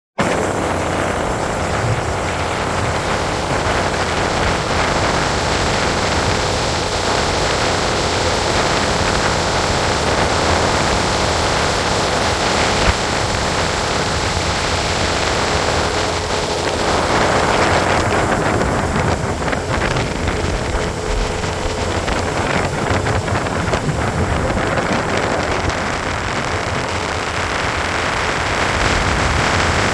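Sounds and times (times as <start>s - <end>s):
motorboat engine running: 0.2s - 29.9s
rushing water: 0.2s - 29.9s
wind noise on microphone: 0.2s - 29.9s.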